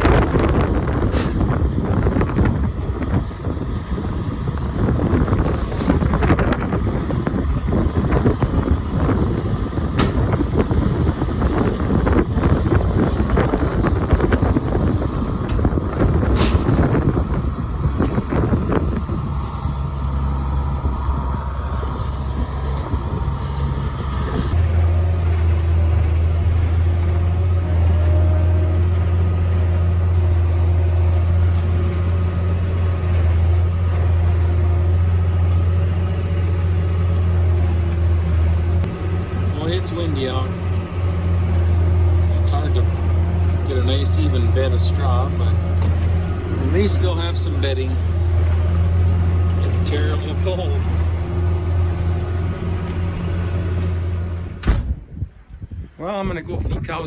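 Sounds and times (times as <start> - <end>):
tractor engine humming: 0.0 - 54.8
strong wind buffeting microphone: 0.0 - 57.0.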